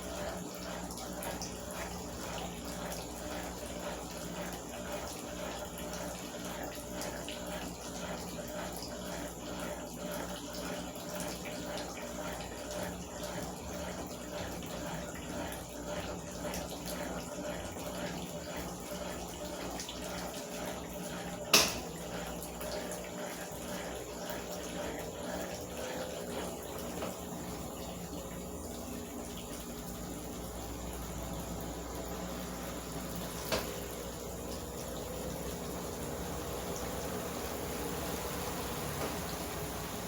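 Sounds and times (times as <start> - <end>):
washing machine humming: 0.0 - 40.0
water running: 0.0 - 40.0.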